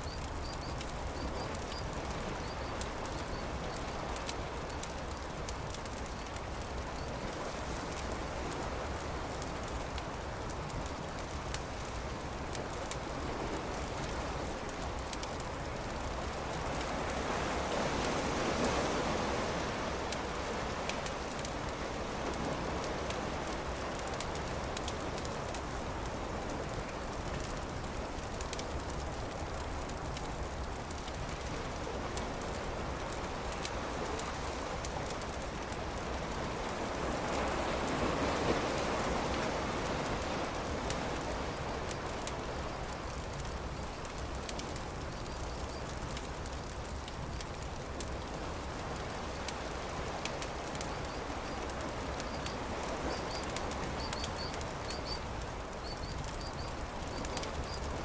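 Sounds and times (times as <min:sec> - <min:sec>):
campfire crackling: 0:00.0 - 0:58.0
surf washing: 0:00.0 - 0:58.0.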